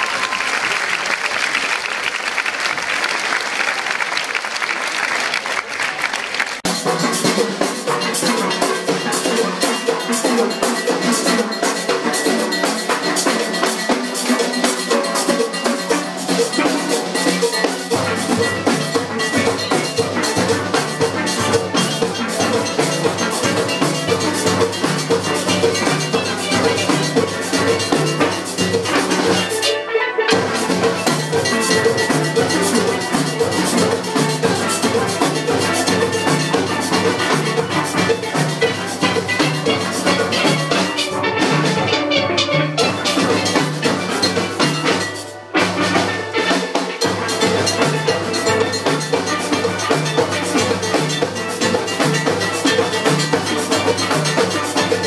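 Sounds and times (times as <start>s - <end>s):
steel pans in fast rhythm: 6.6s - 55.0s.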